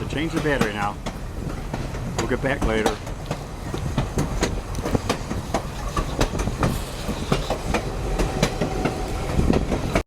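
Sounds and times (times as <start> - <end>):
train rumbling on track: 0.0 - 10.0
train wheels clacking: 0.0 - 10.0.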